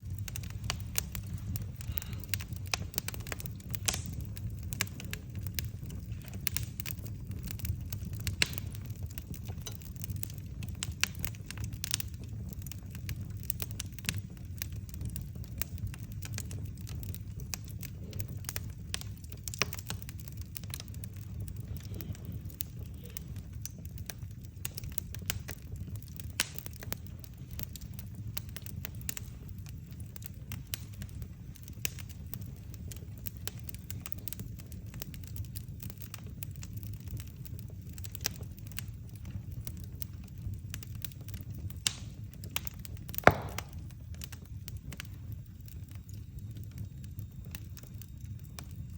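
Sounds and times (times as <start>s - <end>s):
firewood crackling and popping: 0.0s - 48.9s
low fire rumble: 0.0s - 48.9s.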